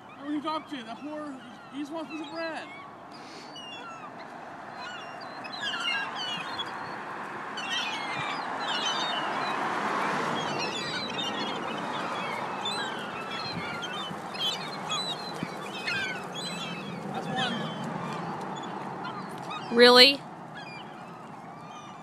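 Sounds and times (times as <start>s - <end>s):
gulls squawking: 0.0s - 22.0s.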